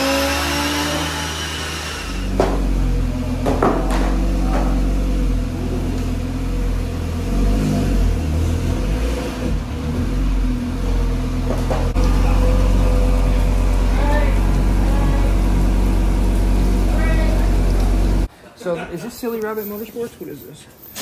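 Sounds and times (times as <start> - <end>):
car engine running on dyno: 0.0 - 18.3.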